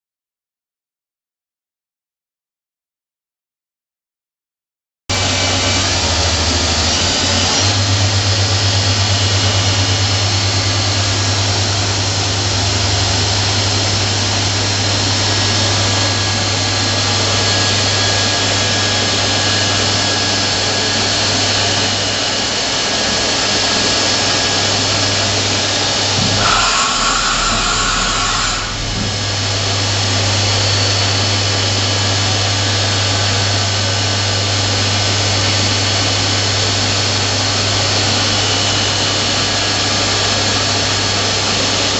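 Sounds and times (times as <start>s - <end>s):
machine whir with low hum: 5.1s - 41.9s.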